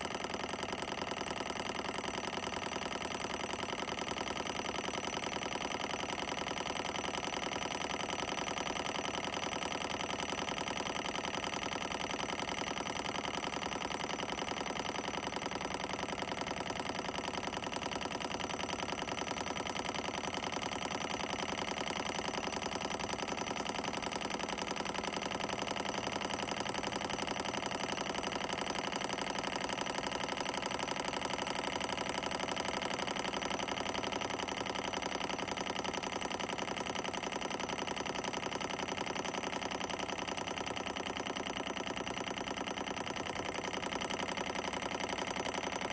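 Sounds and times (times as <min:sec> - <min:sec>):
model engine clattering: 0:00.0 - 0:45.9.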